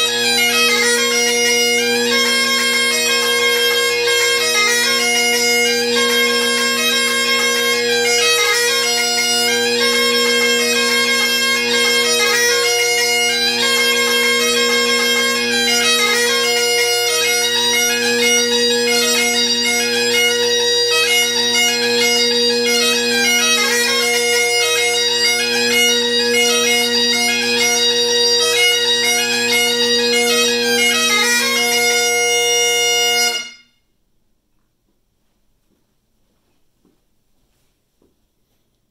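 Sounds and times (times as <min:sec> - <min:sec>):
bagpipe playing a jig: 0:00.0 - 0:33.9.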